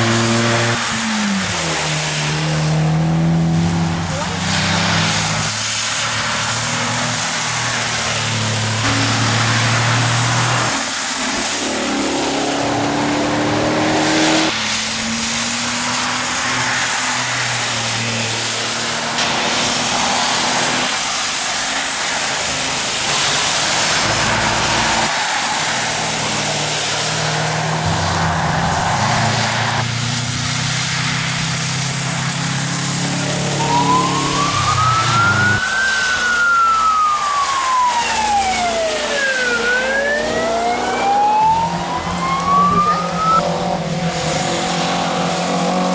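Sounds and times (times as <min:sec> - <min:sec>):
tyre spray: 0:00.0 - 0:40.6
rally car engines passing: 0:00.0 - 0:45.9
rain hiss: 0:00.1 - 0:03.0, 0:03.7 - 0:40.4.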